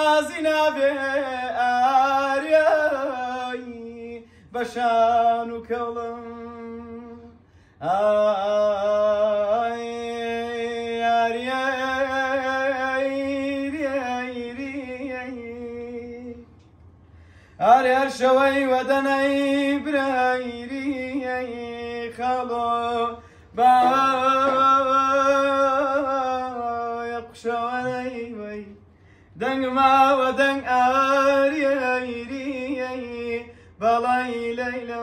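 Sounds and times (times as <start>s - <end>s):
man singing unaccompanied: 0.0s - 16.5s, 17.6s - 28.8s, 29.4s - 35.0s.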